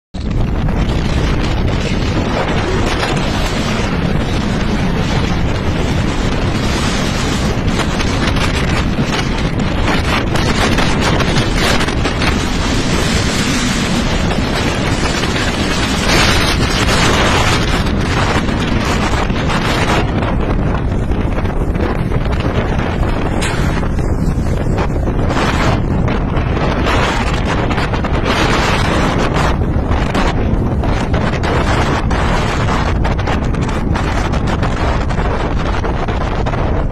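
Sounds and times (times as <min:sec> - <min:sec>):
wind buffeting microphone: 0:00.1 - 0:36.9.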